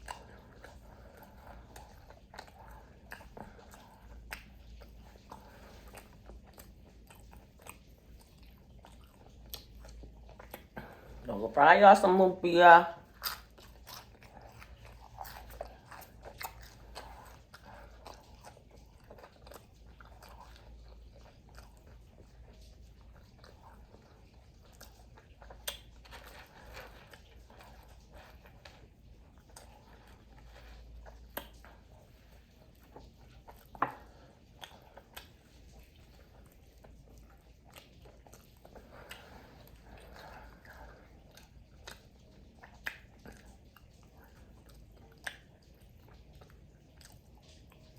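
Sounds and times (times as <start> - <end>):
person chewing crispy food: 0.0 - 12.2, 12.9 - 47.9.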